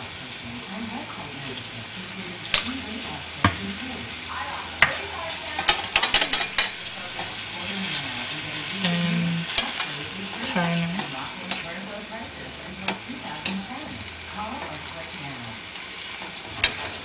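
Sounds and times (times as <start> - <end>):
chicken and onions sizzling in pan: 0.0 - 17.0.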